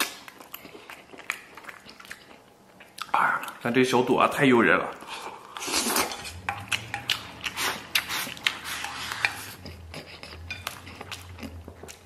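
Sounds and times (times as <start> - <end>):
chewing mouth clicks and smacks: 0.0 - 3.6, 5.5 - 12.0.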